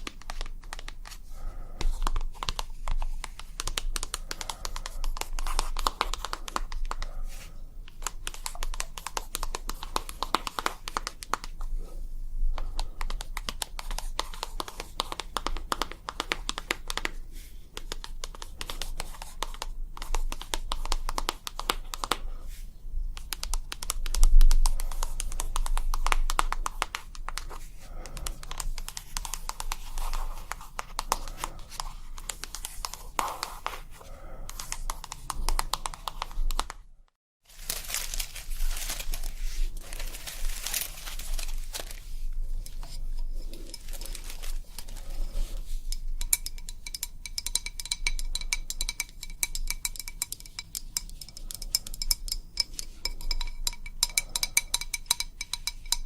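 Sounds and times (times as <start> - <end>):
rapid crinkly tapping: 0.0 - 22.5, 23.1 - 56.0.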